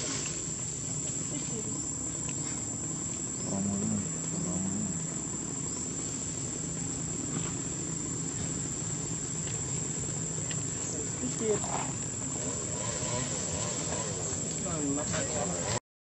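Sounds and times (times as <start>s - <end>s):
insects buzzing: 0.0s - 15.8s
low background rumble: 0.0s - 15.8s.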